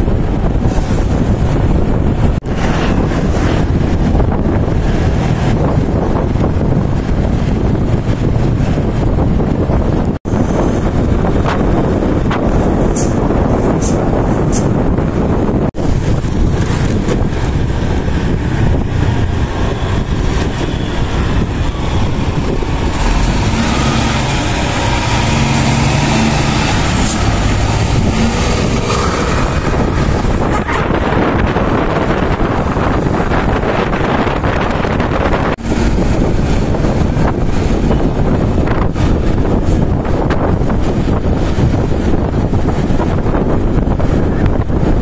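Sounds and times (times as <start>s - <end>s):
coach engine drone: 0.0s - 44.6s
road rush: 0.0s - 45.0s
wind on microphone: 0.0s - 45.0s.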